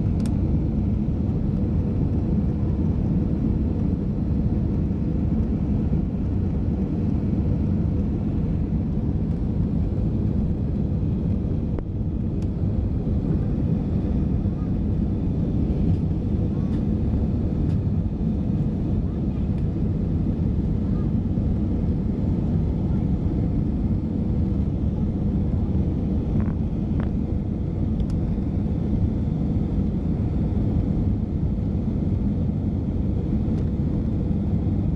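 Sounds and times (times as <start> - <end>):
jet engine rumble inside cabin: 0.0 - 34.9.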